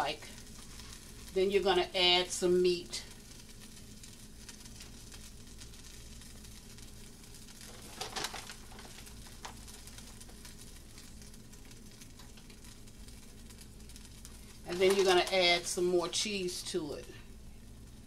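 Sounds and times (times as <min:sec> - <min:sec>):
faint background hum: 0:00.0 - 0:18.0.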